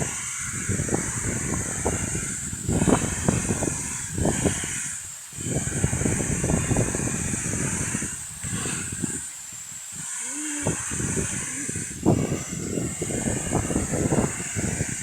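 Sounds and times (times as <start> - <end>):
low rumbling: 0.0 - 15.0
steady high hiss: 0.0 - 15.0.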